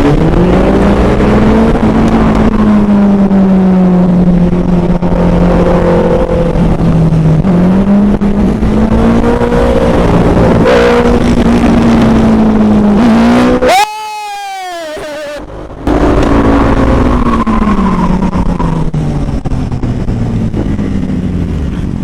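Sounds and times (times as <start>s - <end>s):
motorcycle engine running: 0.0s - 13.7s, 14.9s - 22.0s
falling whine: 0.0s - 21.6s.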